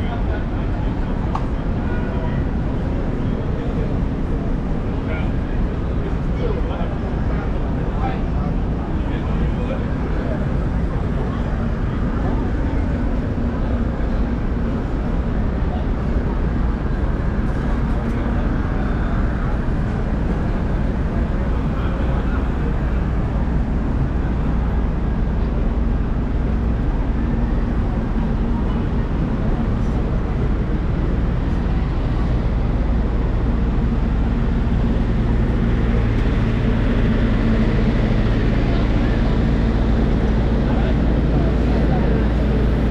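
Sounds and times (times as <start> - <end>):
crowd voices: 0.0 - 42.9
low engine hum: 0.0 - 42.9
traffic rumble: 0.0 - 42.9.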